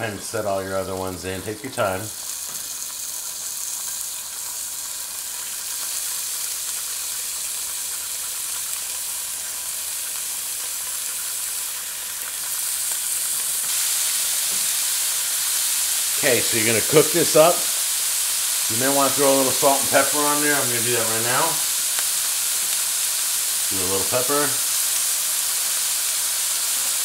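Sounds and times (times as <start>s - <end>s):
steak sizzling in oil: 0.0s - 27.0s.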